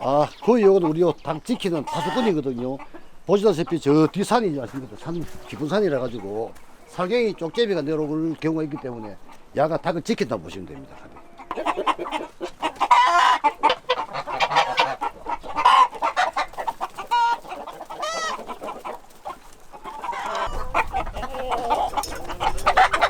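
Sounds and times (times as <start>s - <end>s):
chicken drawn-out call: 0.0s - 7.7s, 10.4s - 23.0s
chickens clucking: 0.0s - 23.0s.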